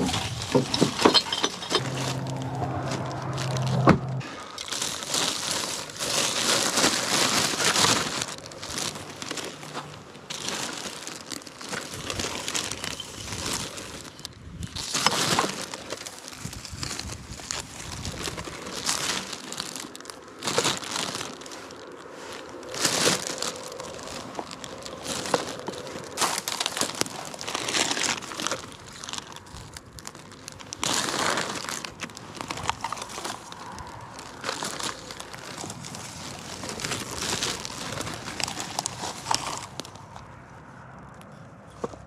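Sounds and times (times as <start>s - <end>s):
plastic bag crinkling: 0.0s - 40.2s.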